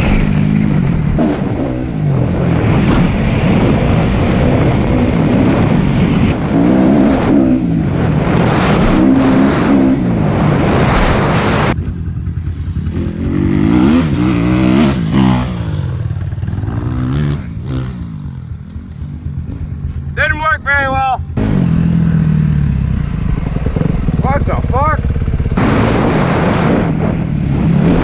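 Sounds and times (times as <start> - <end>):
dirt bike engine revving: 0.0 - 28.0
loud rushing noise: 0.0 - 28.0.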